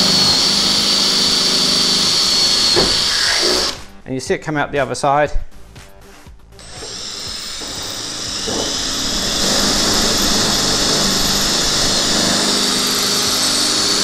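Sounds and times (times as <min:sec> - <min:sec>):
cordless drill drilling metal: 0:00.0 - 0:03.9, 0:06.6 - 0:14.0.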